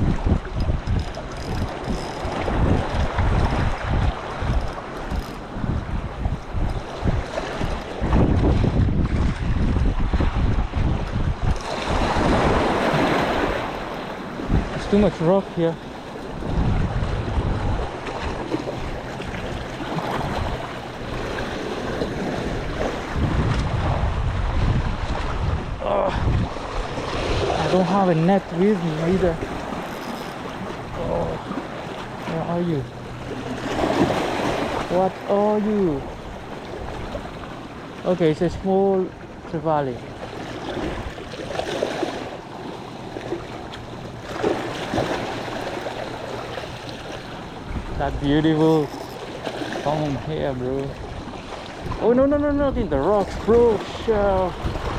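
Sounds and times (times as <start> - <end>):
waves against rocky shore: 0.0 - 54.9
wind buffeting microphone: 0.0 - 54.9.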